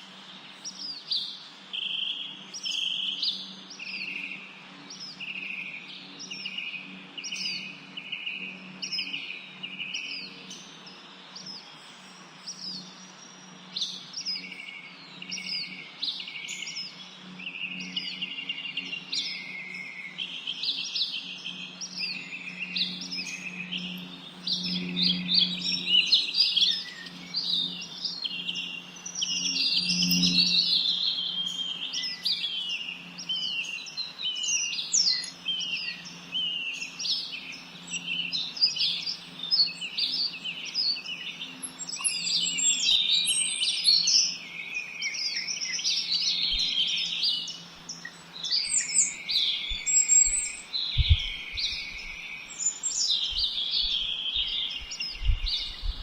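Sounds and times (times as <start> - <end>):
songbirds chirping and singing: 0.0 - 56.0
steady low hum: 0.1 - 56.0.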